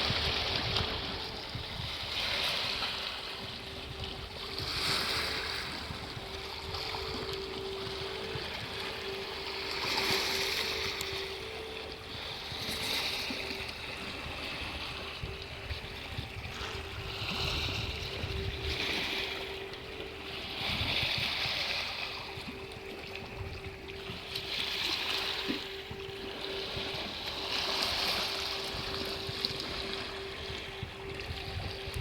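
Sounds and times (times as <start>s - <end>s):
foghorn two-note tone: 0.0s - 32.0s
sea waves breaking on beach: 0.0s - 32.0s.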